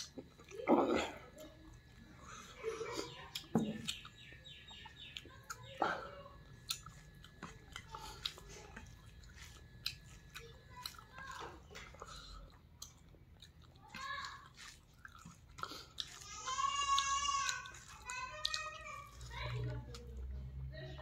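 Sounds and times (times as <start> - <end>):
person chewing: 0.0 - 20.4.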